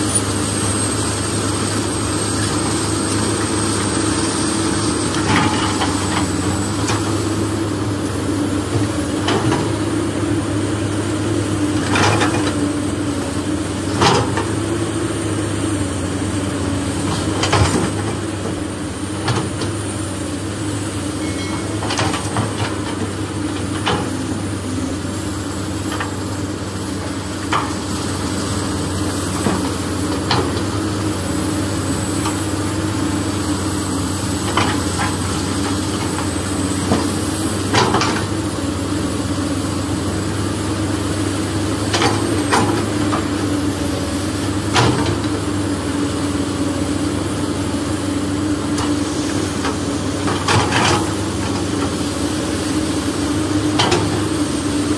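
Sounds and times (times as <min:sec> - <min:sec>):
machinery engine drone: 0:00.0 - 0:54.9.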